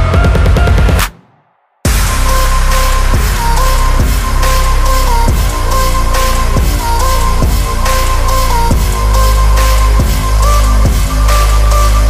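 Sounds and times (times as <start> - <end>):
electronic music: 0.0 - 1.2, 1.8 - 12.0
deep bass: 1.9 - 12.0
drum beat: 1.9 - 12.0.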